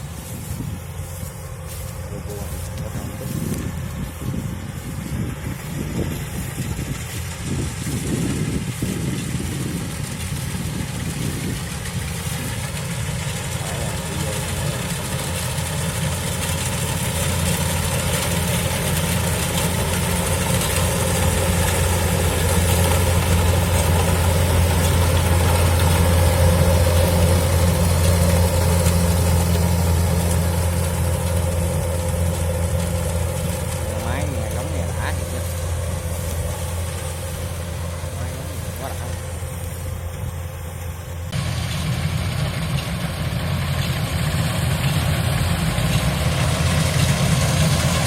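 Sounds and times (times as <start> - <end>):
combine harvester diesel engine: 0.0 - 48.0.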